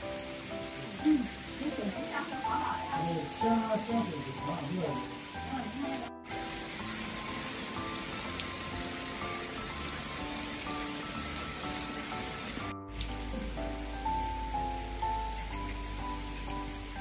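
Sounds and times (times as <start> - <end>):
rain falling on pond: 0.0 - 17.0
soft background music: 0.0 - 17.0.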